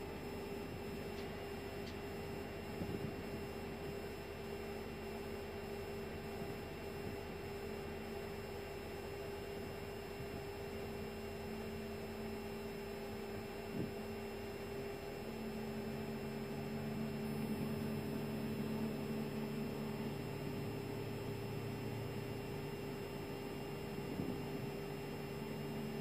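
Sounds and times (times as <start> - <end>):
cockpit hum: 0.0 - 26.0.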